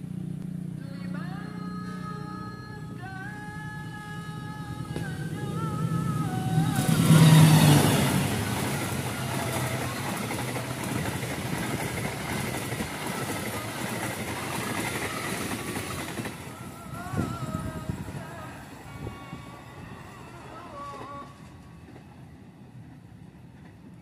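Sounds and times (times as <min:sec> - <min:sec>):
diesel locomotive engine: 0:00.0 - 0:24.0
train wheels rumbling on rails: 0:01.6 - 0:24.0.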